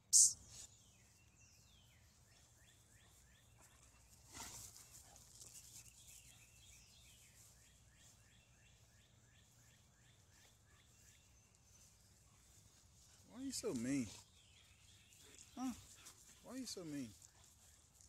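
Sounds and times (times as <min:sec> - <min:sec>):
bird chirping: 0:00.0 - 0:03.8, 0:05.4 - 0:16.6.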